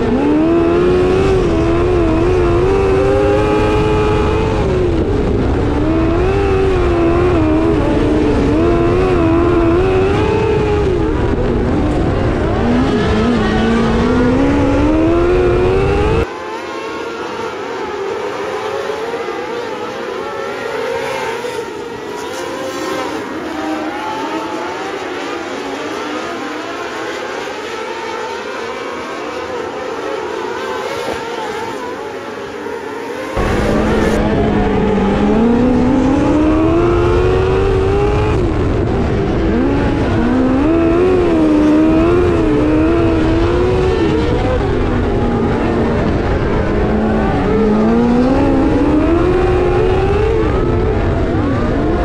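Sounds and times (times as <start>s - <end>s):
onboard race car engine revving: 0.0s - 52.0s
race car engines: 0.0s - 52.0s.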